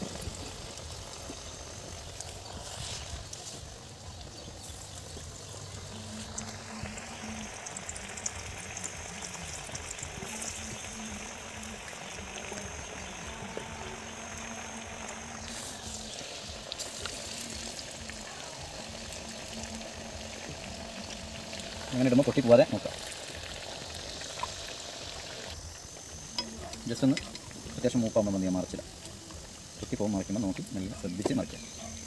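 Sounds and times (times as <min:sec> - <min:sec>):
bubbling oil crackling: 0:00.0 - 0:32.0
fritters deep-frying in oil: 0:00.0 - 0:32.0.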